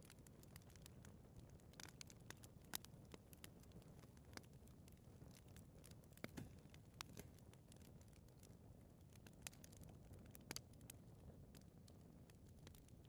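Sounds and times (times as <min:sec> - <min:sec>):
fire crackling with soft pops: 0:00.0 - 0:13.0
low rumble of flames: 0:00.0 - 0:13.0.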